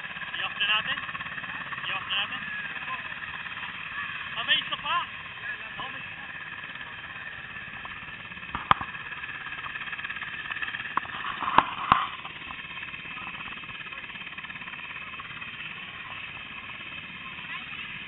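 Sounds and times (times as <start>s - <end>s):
helicopter engine whine: 0.0s - 18.0s.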